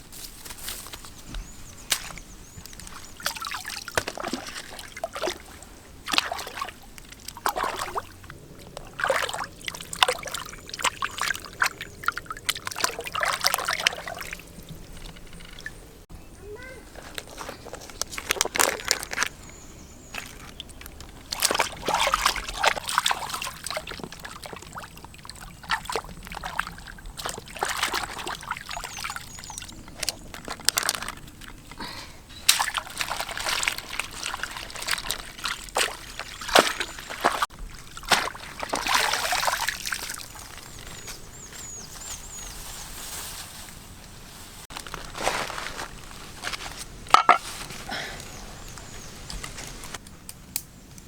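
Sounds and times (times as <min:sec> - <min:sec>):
water sloshing and splashing: 0:00.0 - 0:16.1, 0:17.0 - 0:50.0.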